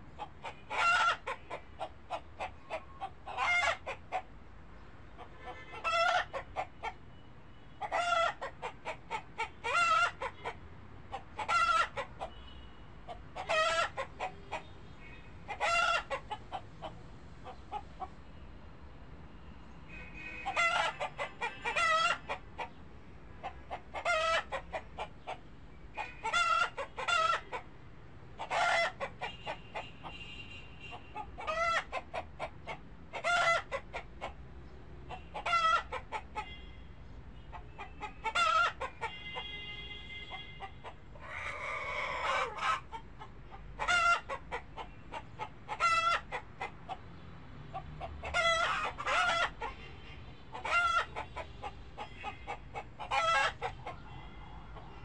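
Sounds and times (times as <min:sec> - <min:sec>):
chickens clucking: 0:00.0 - 0:04.4, 0:05.1 - 0:07.0, 0:07.8 - 0:12.4, 0:13.0 - 0:14.8, 0:15.5 - 0:18.2, 0:20.4 - 0:22.8, 0:23.4 - 0:27.7, 0:28.4 - 0:30.2, 0:30.9 - 0:36.6, 0:37.4 - 0:39.5, 0:40.3 - 0:55.0.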